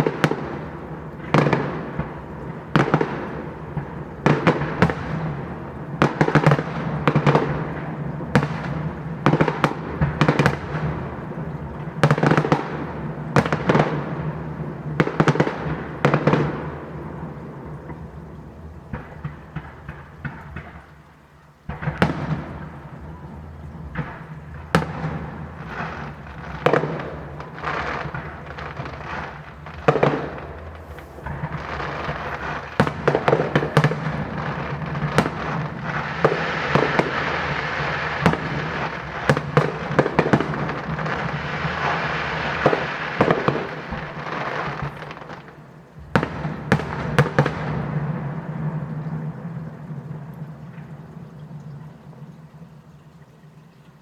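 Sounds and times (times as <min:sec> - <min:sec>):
fireworks banging: 0:00.0 - 0:51.8
fireworks crackling: 0:00.0 - 0:53.6.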